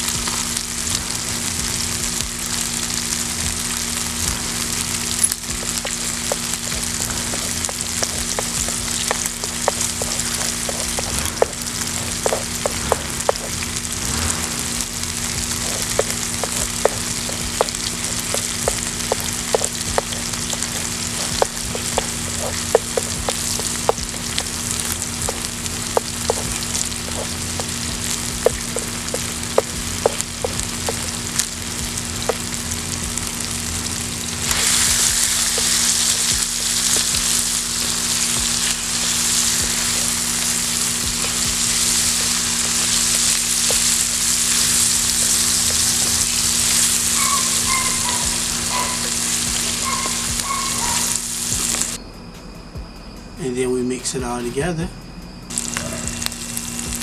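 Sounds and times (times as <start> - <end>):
food sizzling in frying pan: 0.0 - 52.0, 55.5 - 57.0.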